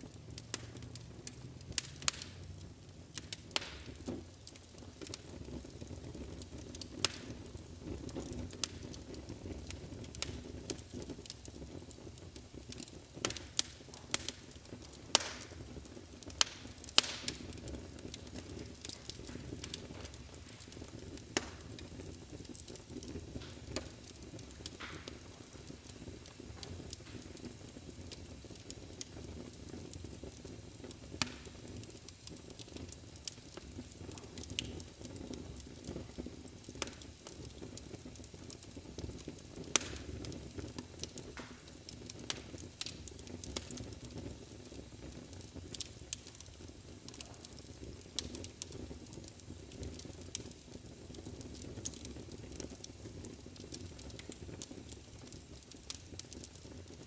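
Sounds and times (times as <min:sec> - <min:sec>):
fire rumbling in fireplace: 0:00.0 - 0:57.0
wood crackling and popping: 0:00.0 - 0:57.0.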